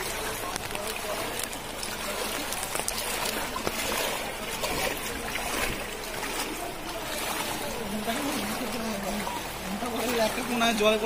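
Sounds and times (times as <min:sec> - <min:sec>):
wading through water: 0:00.0 - 0:11.0.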